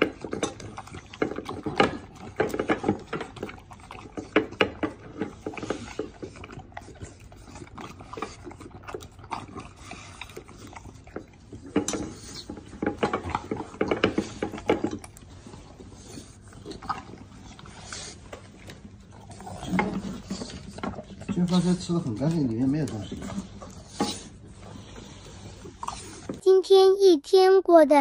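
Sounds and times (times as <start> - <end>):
dog licking metal bowl: 0.0 - 26.3.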